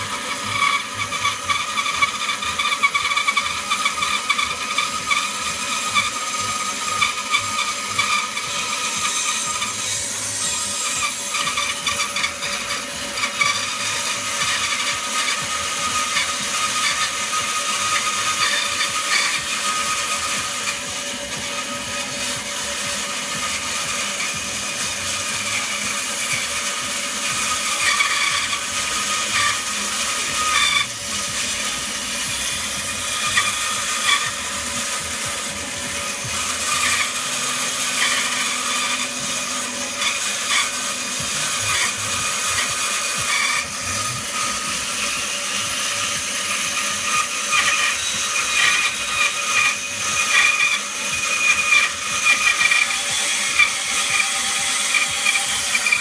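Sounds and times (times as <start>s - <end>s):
bandsaw cutting metal: 0.0s - 56.0s.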